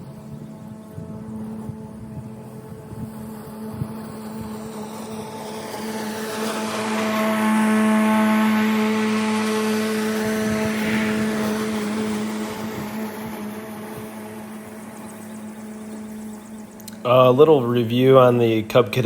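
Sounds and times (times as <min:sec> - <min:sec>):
electric mower humming and whining: 0:00.0 - 0:19.0.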